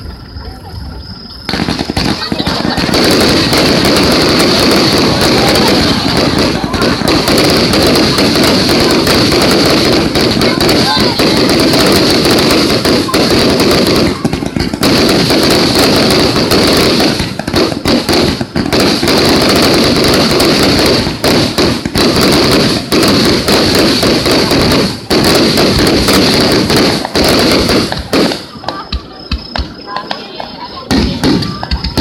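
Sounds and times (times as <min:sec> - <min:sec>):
fireworks bursting and crackling: 0:00.0 - 0:32.0.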